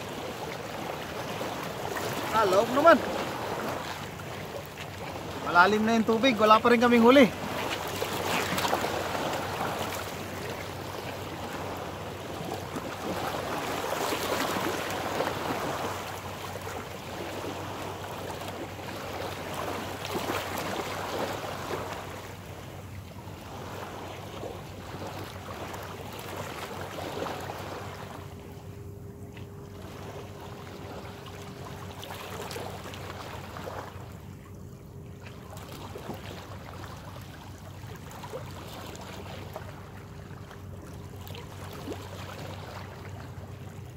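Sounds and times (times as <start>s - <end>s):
small waves lapping on rocks: 0.0s - 28.5s, 29.3s - 43.9s.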